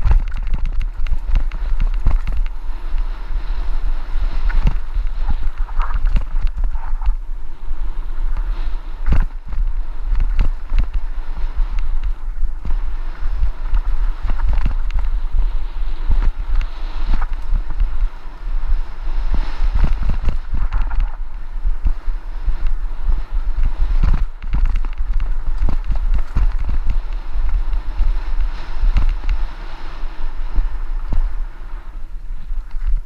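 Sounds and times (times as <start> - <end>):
bike knocking and rattling: 0.0 - 29.5, 32.5 - 33.0
wind buffeting microphone: 0.0 - 33.0.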